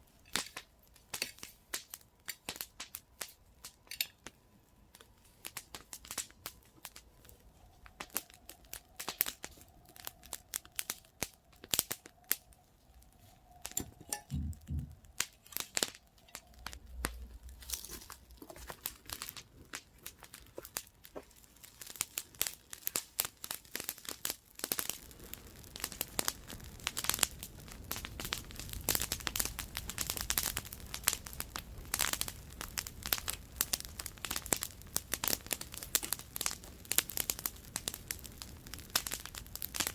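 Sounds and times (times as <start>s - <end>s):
campfire crackling and popping: 0.0s - 39.9s
fire hiss: 0.0s - 39.9s.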